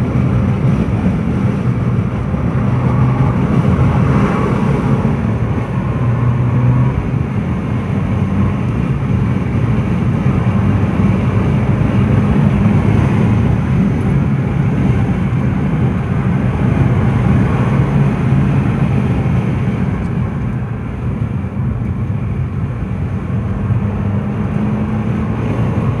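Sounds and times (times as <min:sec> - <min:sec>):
car engine droning: 0:00.0 - 0:26.0
road noise: 0:00.0 - 0:26.0.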